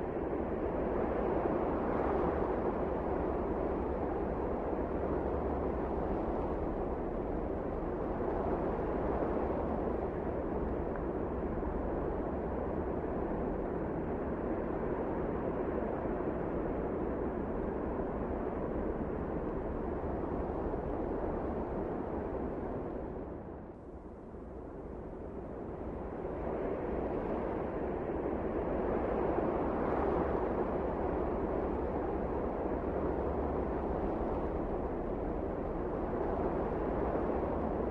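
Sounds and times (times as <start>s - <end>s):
blizzard wind rushing: 0.0s - 37.9s.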